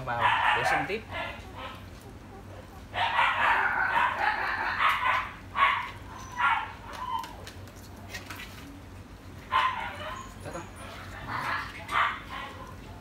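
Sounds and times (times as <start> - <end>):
puppies squealing and crying: 0.0 - 7.5, 9.4 - 13.0.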